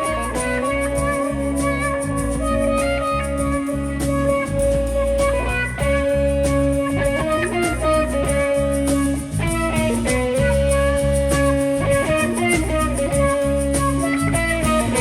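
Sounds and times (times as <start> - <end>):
guitar: 0.0 - 15.0
instrumental live band music: 0.0 - 15.0
steady bass: 0.0 - 15.0.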